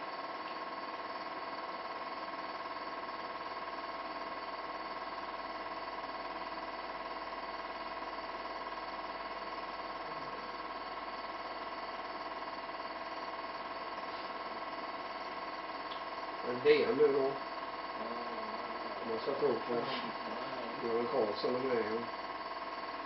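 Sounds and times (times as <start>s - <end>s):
film projector hum and whine: 0.0s - 23.0s.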